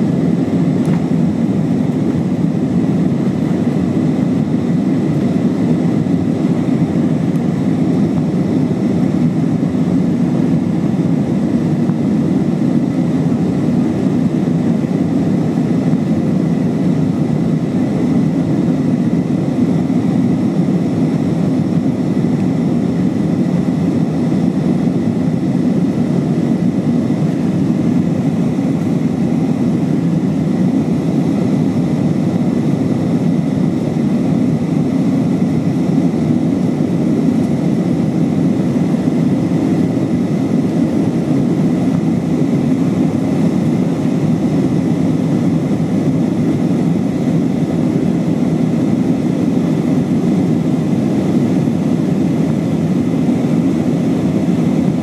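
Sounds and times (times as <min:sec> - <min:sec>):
faint steady whine: 0:00.0 - 0:55.0
jet engines and airflow rushing: 0:00.0 - 0:55.0.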